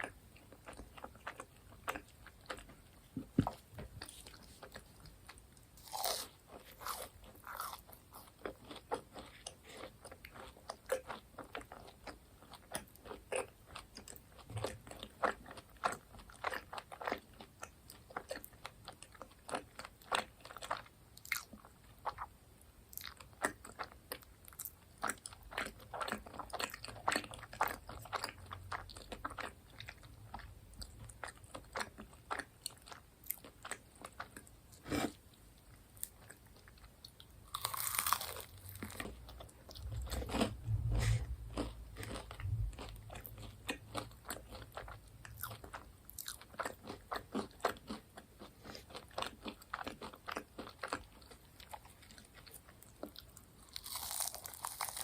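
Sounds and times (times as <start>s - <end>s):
chewing crunchy fried food: 0.0s - 55.0s.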